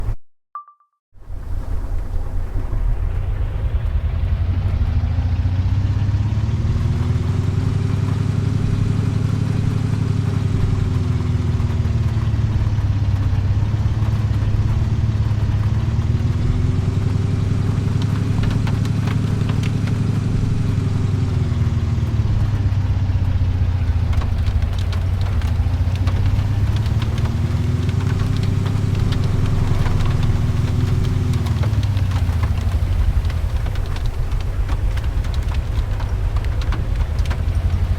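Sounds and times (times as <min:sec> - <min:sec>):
vehicle rumble: 0:01.2 - 0:37.9
light ticks: 0:06.8 - 0:37.9.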